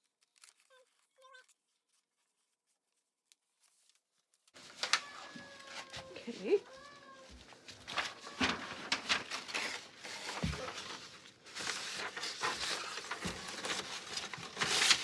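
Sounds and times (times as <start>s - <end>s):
crafting materials rustling: 0.0s - 15.0s.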